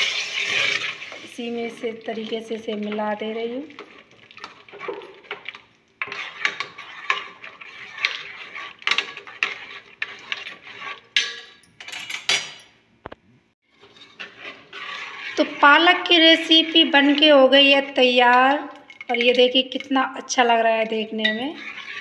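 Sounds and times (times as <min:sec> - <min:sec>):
metal ladle scraping a pot: 0:00.0 - 0:11.6, 0:13.7 - 0:22.0.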